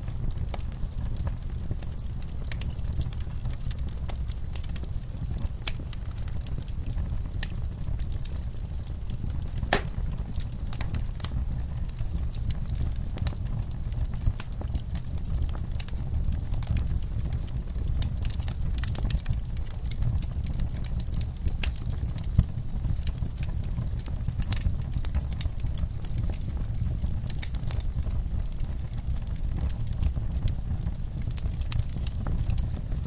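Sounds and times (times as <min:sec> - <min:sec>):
low steady rumble: 0:00.0 - 0:33.0
wood fire crackling: 0:00.0 - 0:33.0
sharp fire pops: 0:00.1 - 0:33.0.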